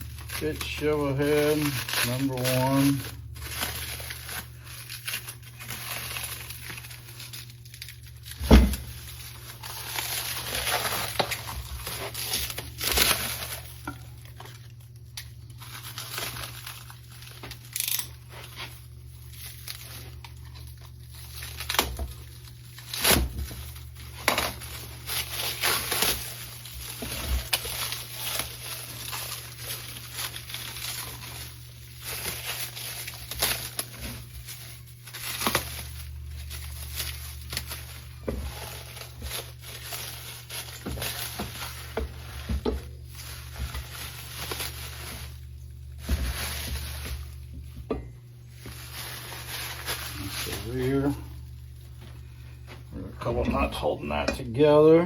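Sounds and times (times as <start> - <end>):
packing wrap crinkling and tearing: 0.0 - 54.2.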